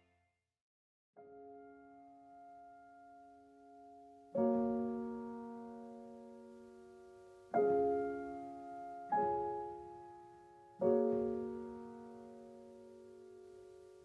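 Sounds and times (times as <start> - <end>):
soft piano chords: 1.2 - 14.0.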